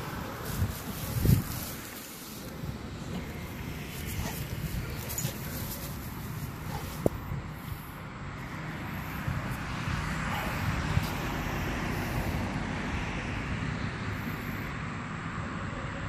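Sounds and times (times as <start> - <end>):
distant vehicle rumble: 0.0 - 16.0.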